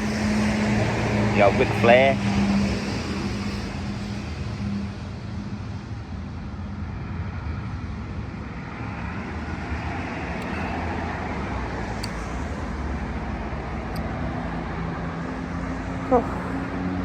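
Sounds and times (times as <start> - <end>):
cars passing on busy road: 0.0 - 17.0.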